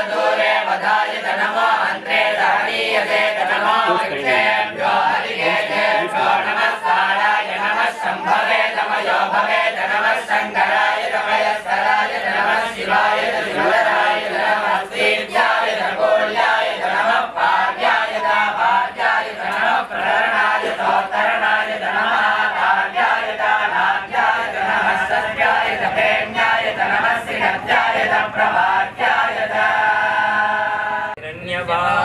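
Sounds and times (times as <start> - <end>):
men and boys chanting hymns: 0.0 - 32.0.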